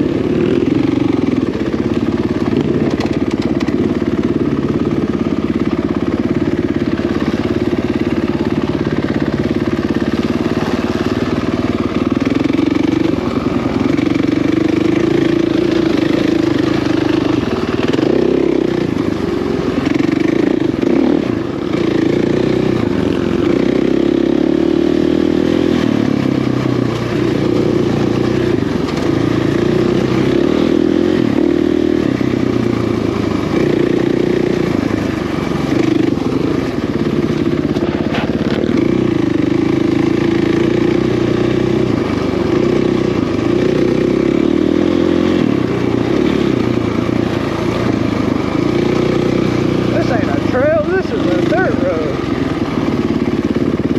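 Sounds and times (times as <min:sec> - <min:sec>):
dirt bike engine: 0:00.0 - 0:53.9.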